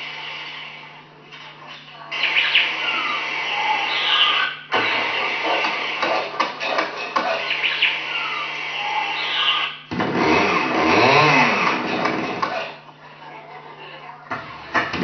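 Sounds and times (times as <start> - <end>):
dense mechanical noise: 0.0 - 13.4.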